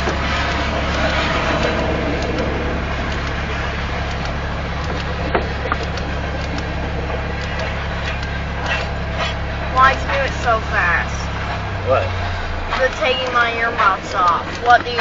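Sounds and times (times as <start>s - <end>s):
sharp rail clicks: 0.0s - 15.0s
train wheels rumbling on rails: 0.0s - 15.0s.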